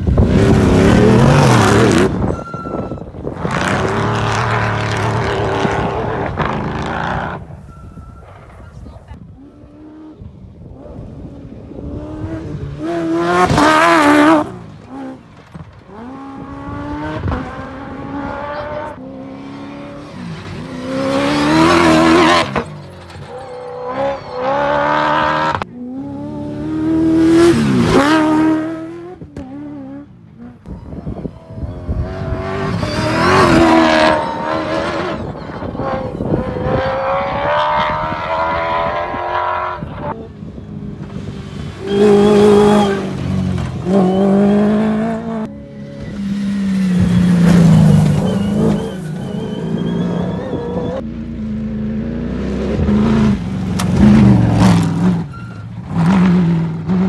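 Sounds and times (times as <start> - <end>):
rally cars racing past: 8.4 - 57.0.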